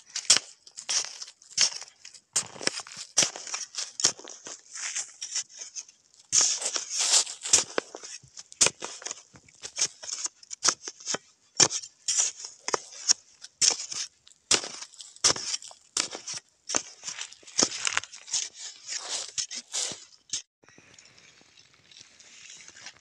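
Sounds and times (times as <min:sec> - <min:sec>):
metal blade stabbing dry soil: 0:00.1 - 0:20.5.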